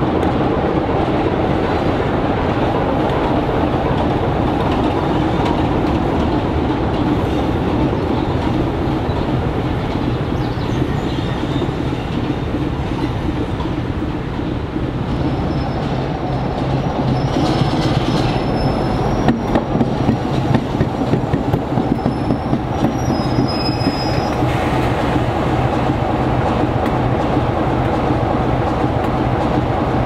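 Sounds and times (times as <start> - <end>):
diesel locomotive engine running: 0.0 - 30.0
train moving: 0.0 - 30.0.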